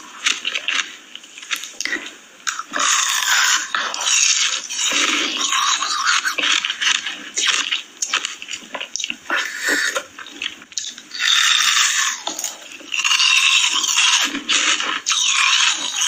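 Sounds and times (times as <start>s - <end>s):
wet chewing and biting: 0.0s - 16.0s.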